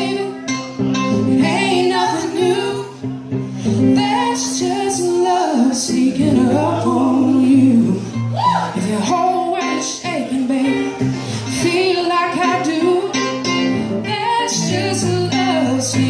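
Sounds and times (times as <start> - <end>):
woman singing: 0.0 - 3.0, 3.7 - 16.0
electric guitar: 0.0 - 16.0
keyboard accompaniment: 0.0 - 16.0.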